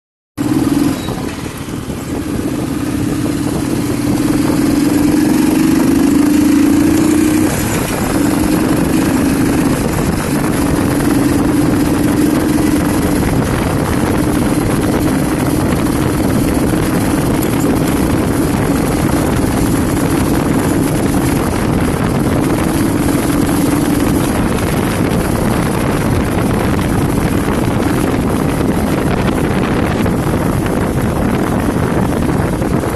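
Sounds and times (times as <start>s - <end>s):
motorcycle engine running: 0.4s - 32.9s
wind and road noise: 0.4s - 32.9s.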